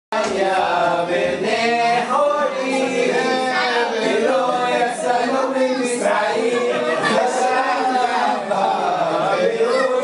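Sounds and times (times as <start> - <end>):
group singing unaccompanied: 0.1 - 10.0.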